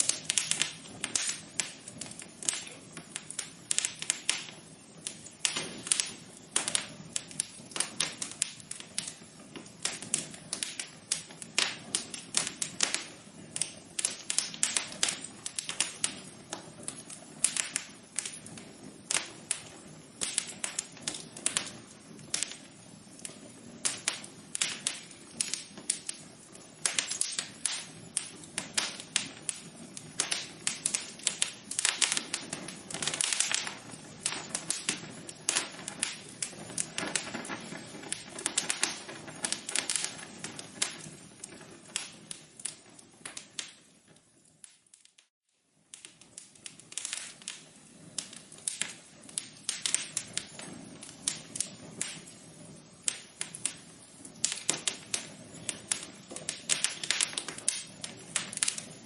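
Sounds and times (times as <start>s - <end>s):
flames hissing: 0.0s - 59.0s
wood fire crackling: 0.0s - 59.0s.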